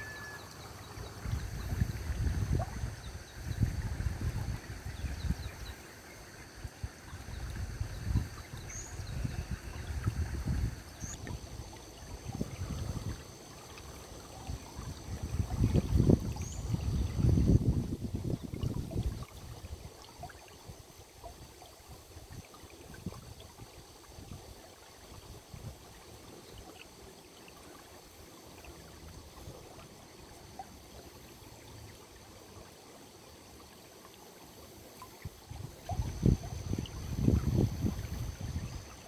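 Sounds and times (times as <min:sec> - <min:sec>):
stream water trickling: 0:00.0 - 0:39.0.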